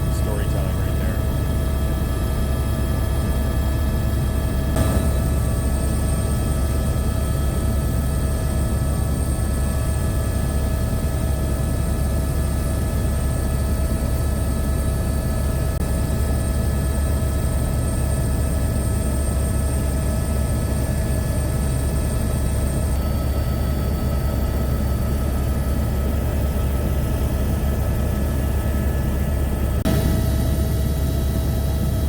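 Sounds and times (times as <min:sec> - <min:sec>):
aircraft engine drone: 0:00.0 - 0:32.0.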